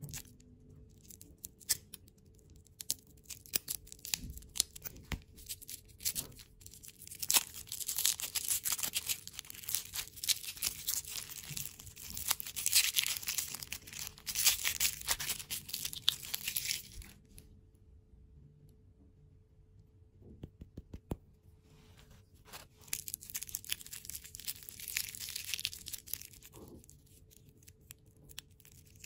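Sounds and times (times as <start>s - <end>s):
plastic wrapper crinkling: 0.0s - 17.4s, 22.4s - 29.0s.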